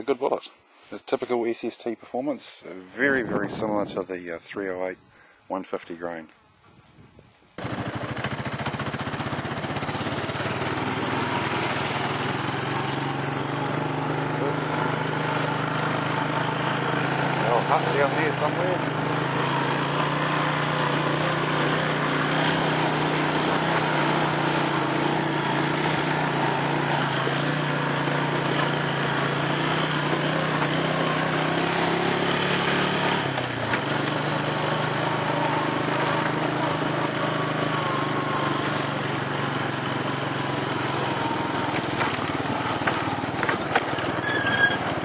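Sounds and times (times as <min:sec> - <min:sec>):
small engine running: 0:07.6 - 0:45.0.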